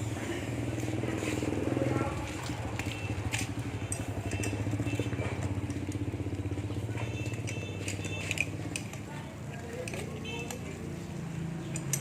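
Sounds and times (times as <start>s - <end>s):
light clicks and clinks: 2.2s - 12.0s.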